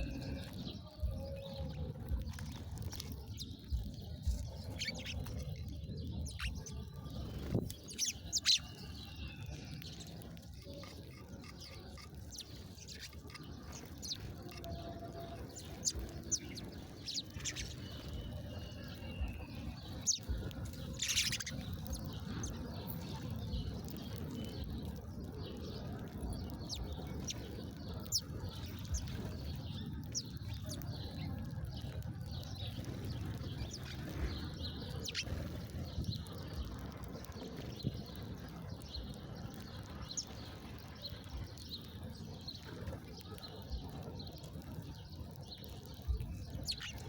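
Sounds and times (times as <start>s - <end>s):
low background rumble: 0.0s - 47.0s
small birds chirping: 0.0s - 47.0s.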